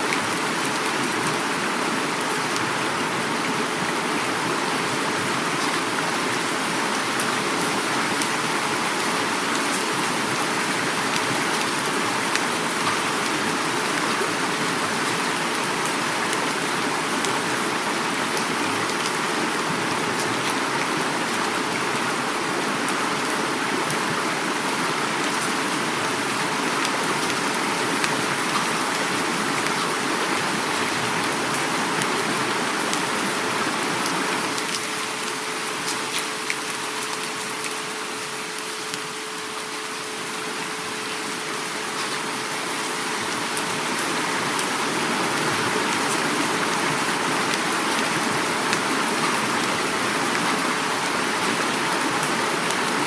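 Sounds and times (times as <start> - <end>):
heavy rain falling: 0.0 - 53.0
river flowing: 0.0 - 53.0.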